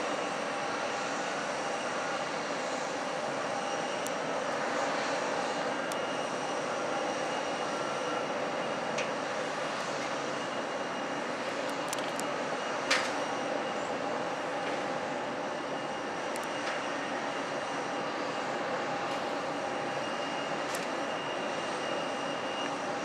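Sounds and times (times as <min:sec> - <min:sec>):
airliner engines humming: 0:00.0 - 0:23.0.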